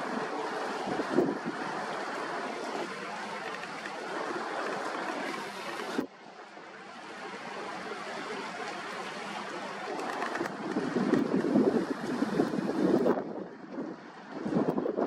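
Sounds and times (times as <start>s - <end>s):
rushing splashing water: 0.0s - 15.0s.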